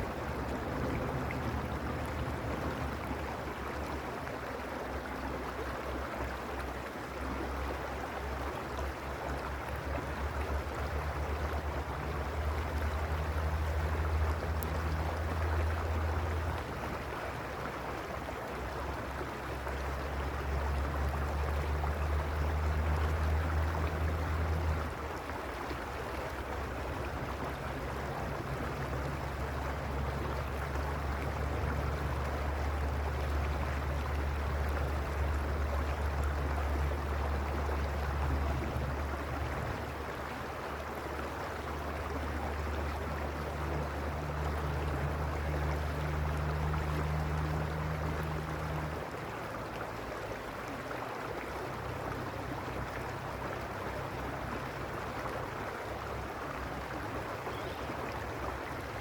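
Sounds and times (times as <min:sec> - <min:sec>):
creek water rushing over stones: 0:00.0 - 0:59.0.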